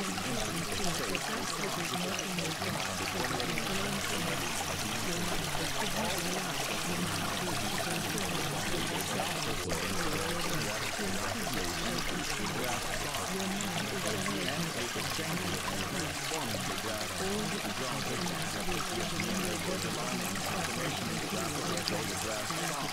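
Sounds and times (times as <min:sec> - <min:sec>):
flowing water: 0:00.0 - 0:22.9.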